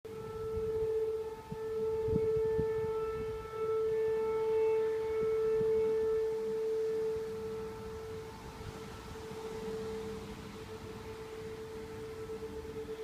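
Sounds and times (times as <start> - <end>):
horn-like drone: 0.1 - 13.0.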